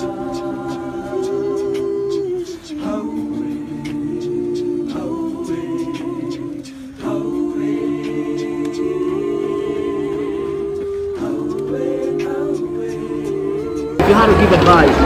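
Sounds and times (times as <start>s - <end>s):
a cappella voices singing chords: 0.0s - 14.8s.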